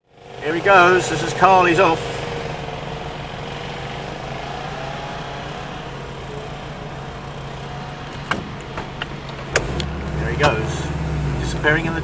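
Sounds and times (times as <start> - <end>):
car engine idling: 0.0 - 12.0
car pulling away: 0.1 - 12.0.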